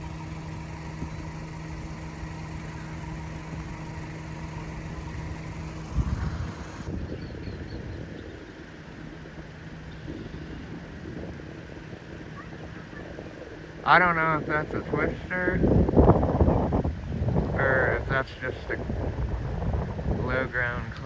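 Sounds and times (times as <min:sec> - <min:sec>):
car engine idling: 0:00.0 - 0:21.0
low uneven rumbling: 0:00.0 - 0:21.0.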